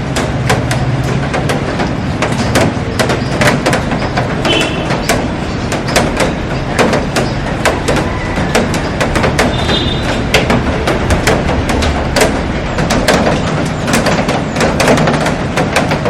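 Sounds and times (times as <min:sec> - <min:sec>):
heavy rain on glass roof: 0:00.0 - 0:16.0
large raindrops tapping: 0:00.0 - 0:16.0.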